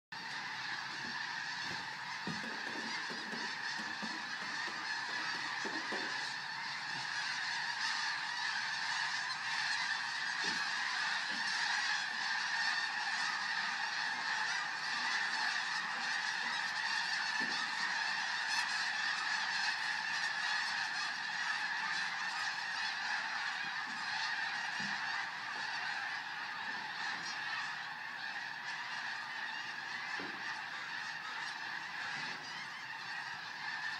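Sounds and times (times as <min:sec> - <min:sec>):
large flock of birds calling: 0:00.1 - 0:33.9.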